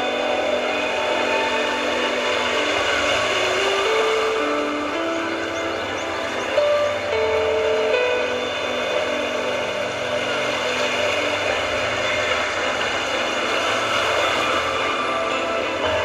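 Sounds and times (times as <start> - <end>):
music over sound system: 0.0 - 16.0
steady noisy wash: 0.0 - 16.0.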